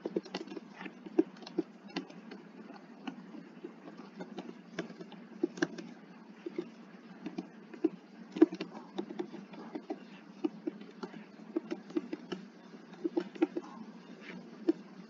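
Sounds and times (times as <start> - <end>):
keyboard typing: 0.0 - 15.0.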